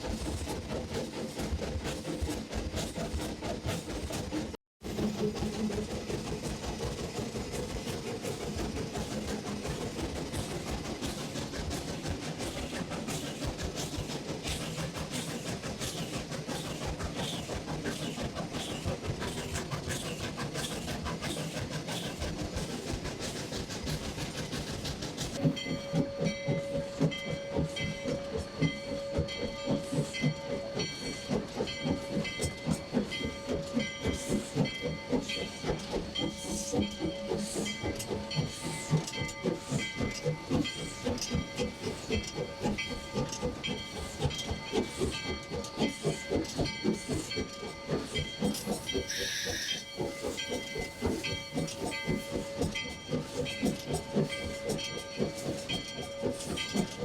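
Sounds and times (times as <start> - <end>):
steam locomotive exhaust beats: 0.0 - 57.0
hissing steam: 4.9 - 57.0.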